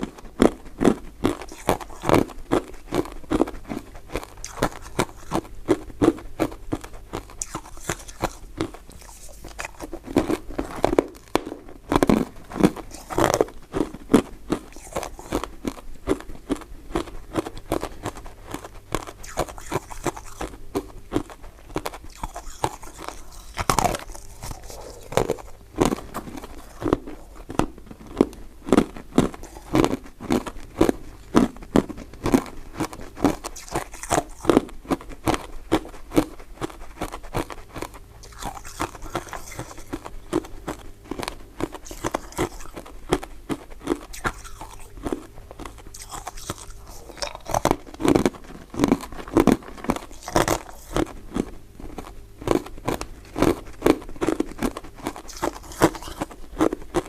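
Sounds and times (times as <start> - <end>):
crunching sweets while chewing: 0.0 - 57.0.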